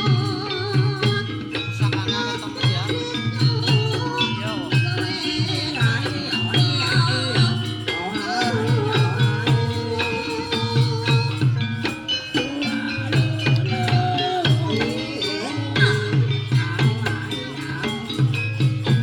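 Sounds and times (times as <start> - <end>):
low drum beat: 0.0 - 19.0.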